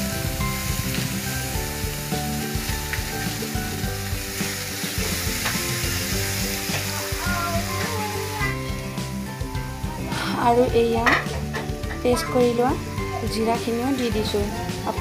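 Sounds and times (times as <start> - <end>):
spices sizzling in oil: 0.0 - 15.0.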